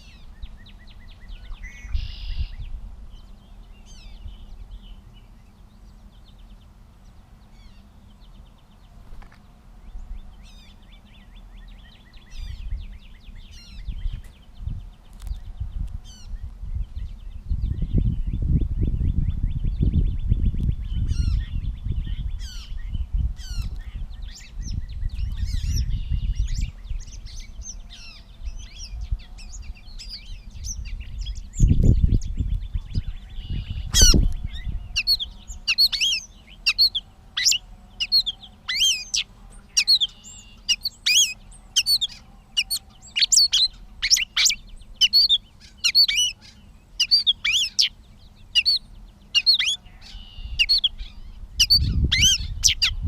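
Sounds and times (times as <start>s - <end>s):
bird singing chirps: 0.0s - 53.0s.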